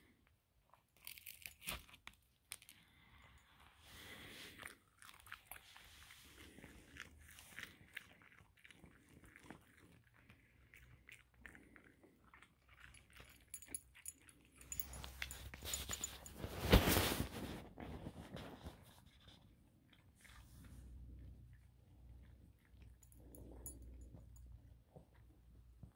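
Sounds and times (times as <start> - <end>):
cat chewing and crunching: 0.0 - 25.9.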